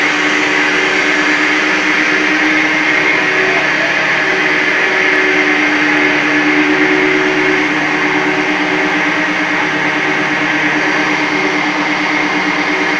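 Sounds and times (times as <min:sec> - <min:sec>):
constant hum: 0:00.0 - 0:12.9.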